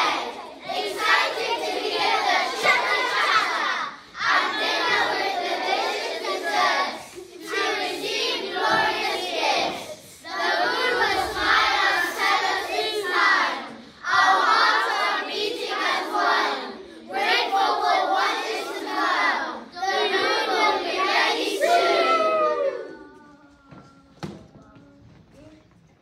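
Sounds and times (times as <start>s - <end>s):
children singing: 0.0s - 24.4s.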